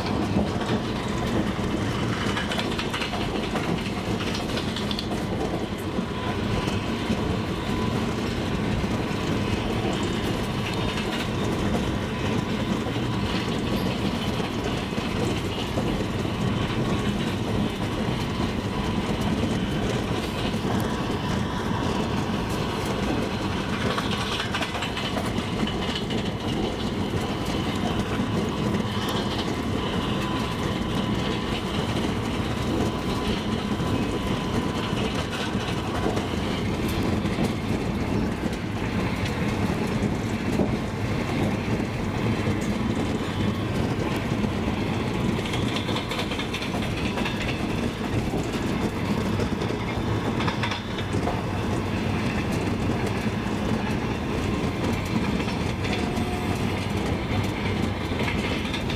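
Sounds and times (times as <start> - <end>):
train wheels clacking on rails: 0.0 - 58.9.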